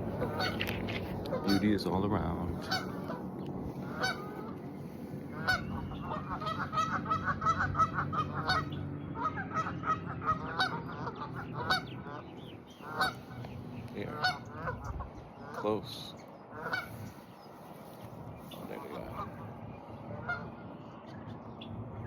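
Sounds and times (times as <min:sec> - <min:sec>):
geese honking: 0:00.0 - 0:21.1.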